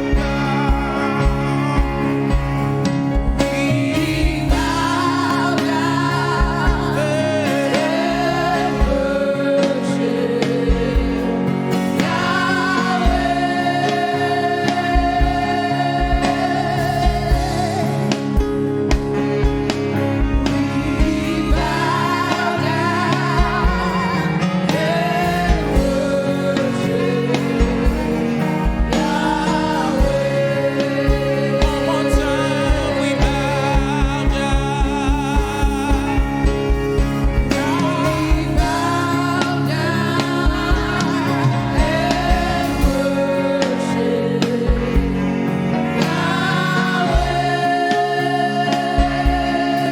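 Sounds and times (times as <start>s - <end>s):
steady low drum beat: 0.0s - 9.9s, 10.5s - 49.9s
person singing: 0.0s - 49.9s
sustained chords: 0.0s - 49.9s.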